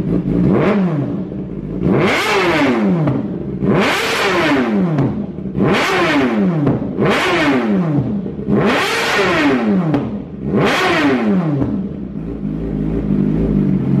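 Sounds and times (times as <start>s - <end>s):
motorcycle idling: 0.0s - 10.6s, 11.4s - 14.0s
motorcycle revving: 0.0s - 14.0s.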